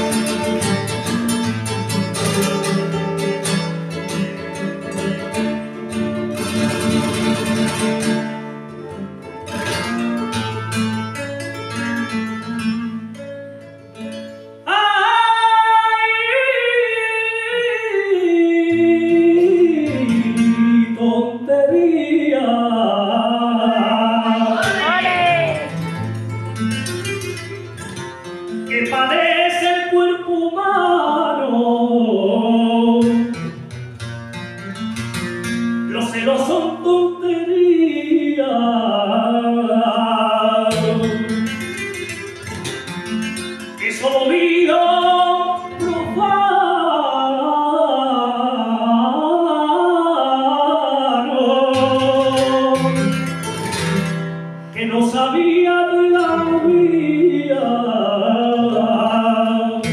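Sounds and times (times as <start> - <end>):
flamenco guitar: 0.0 - 59.9
man singing flamenco: 0.0 - 59.9.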